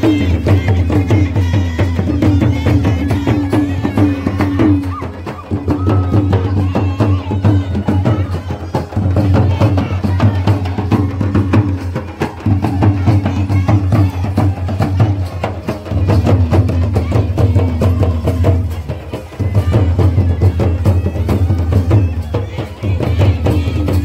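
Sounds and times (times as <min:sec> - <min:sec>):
crowd voices: 0:00.0 - 0:24.0
folk drumming fast beat: 0:00.0 - 0:24.0.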